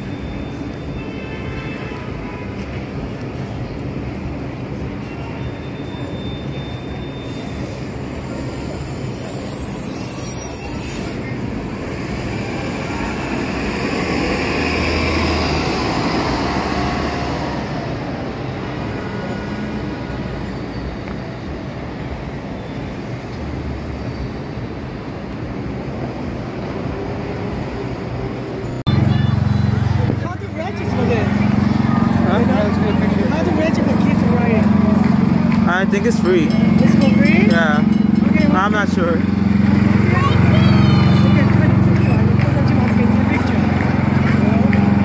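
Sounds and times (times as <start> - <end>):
other traffic: 0.0 - 45.0
bus engine humming: 2.7 - 23.3, 24.3 - 45.0.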